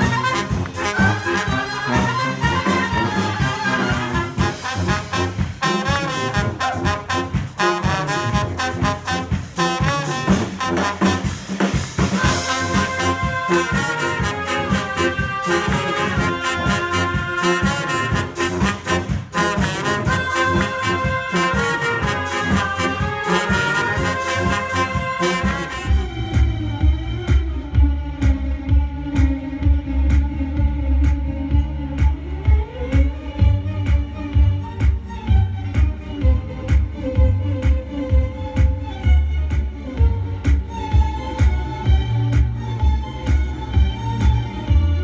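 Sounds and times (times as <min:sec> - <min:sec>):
brass band playing: 0:00.0 - 0:45.0
drum kit: 0:00.0 - 0:45.0.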